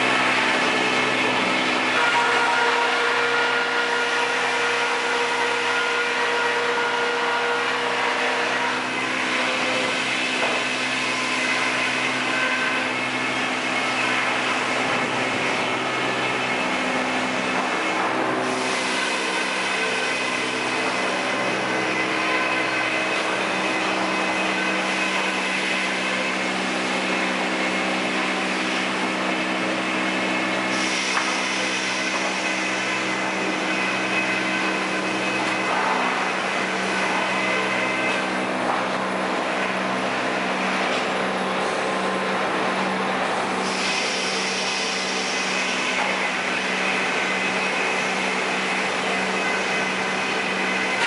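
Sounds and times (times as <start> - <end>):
sawmill machinery drone: 0.0 - 51.0.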